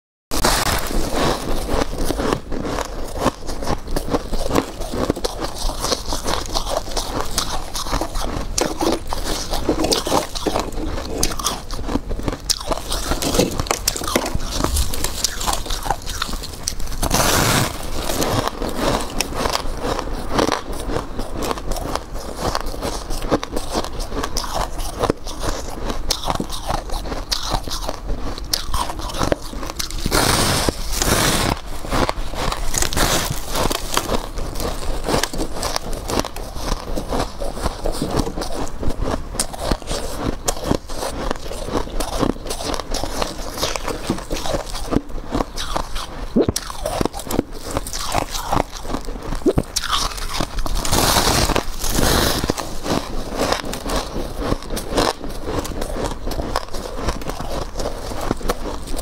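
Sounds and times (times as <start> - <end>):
chewing crunchy frost chunks: 0.3 - 59.0.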